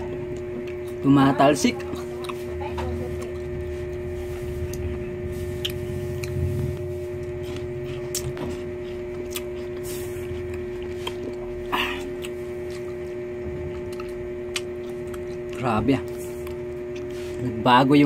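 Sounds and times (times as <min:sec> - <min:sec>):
person chewing crisp fruit: 0:00.0 - 0:18.0
steady electrical hum: 0:00.0 - 0:18.0.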